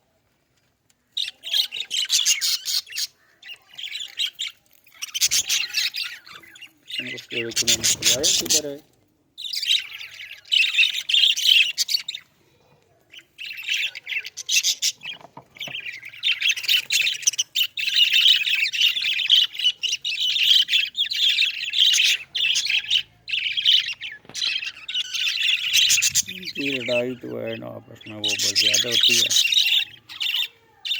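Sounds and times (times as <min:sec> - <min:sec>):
budgerigars chattering: 0:01.2 - 0:08.8, 0:09.4 - 0:12.3, 0:13.2 - 0:30.9.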